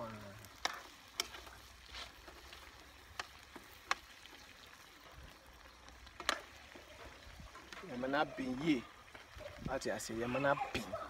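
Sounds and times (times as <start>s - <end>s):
faint hiss of frying: 0.0s - 11.0s.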